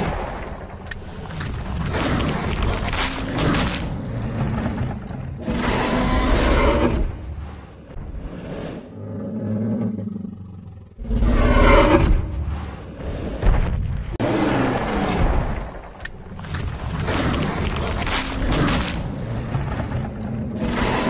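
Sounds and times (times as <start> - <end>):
dinosaur roar: 1.5 - 13.4, 14.2 - 21.0.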